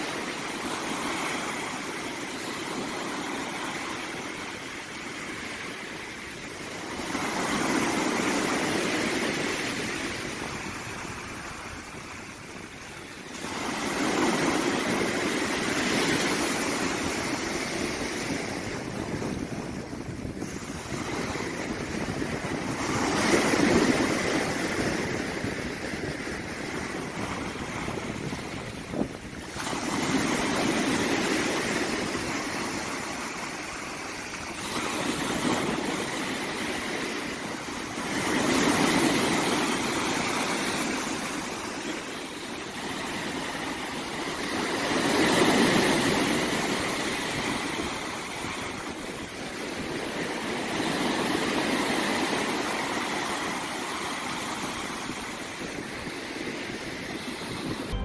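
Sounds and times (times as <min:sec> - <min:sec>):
waves washing up a beach: 0:00.0 - 0:58.0.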